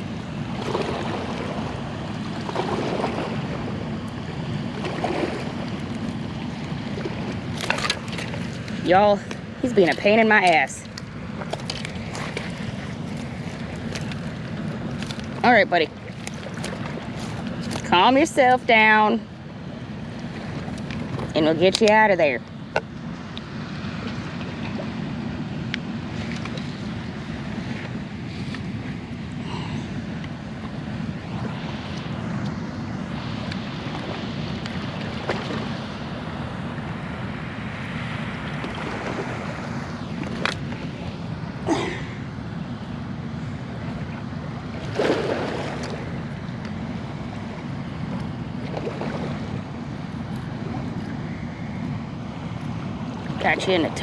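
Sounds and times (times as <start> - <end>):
water rumbling: 0.0 - 54.0
wind: 0.0 - 54.0.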